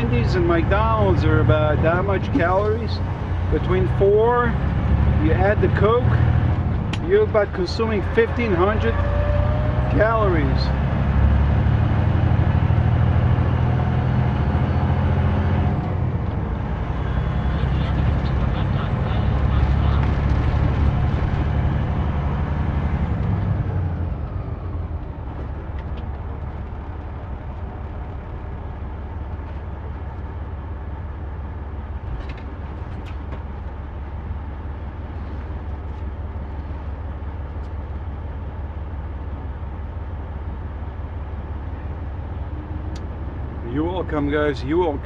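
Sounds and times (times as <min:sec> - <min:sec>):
diesel truck engine droning: 0:00.0 - 0:45.0.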